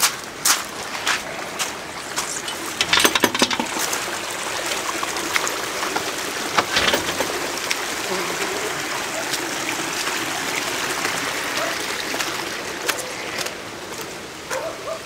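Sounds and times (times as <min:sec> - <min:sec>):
water splashes: 0:00.0 - 0:14.5
water trickling down gravel channel: 0:00.0 - 0:15.0.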